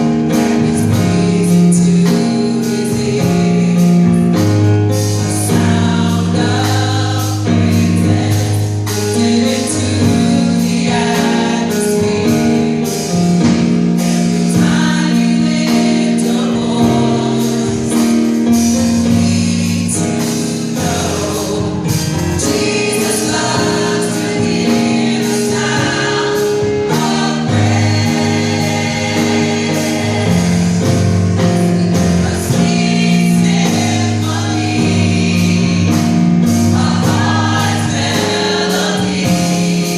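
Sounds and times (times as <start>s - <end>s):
gospel choir singing with band: 0.0s - 39.9s.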